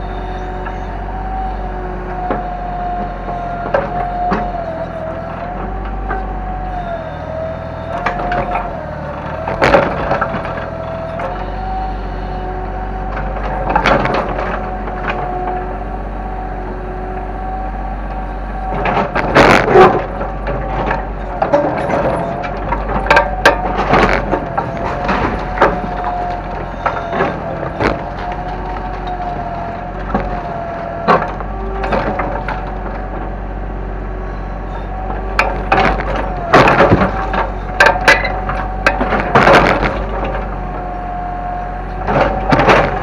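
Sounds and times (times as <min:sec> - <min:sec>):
excavator hydraulic whine: 0:00.0 - 0:43.0.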